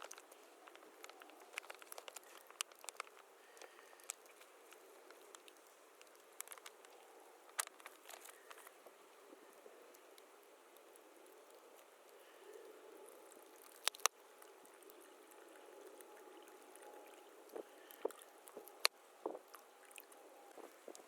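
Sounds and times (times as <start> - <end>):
water sloshing and lapping: 0.0 - 10.1, 11.2 - 21.0.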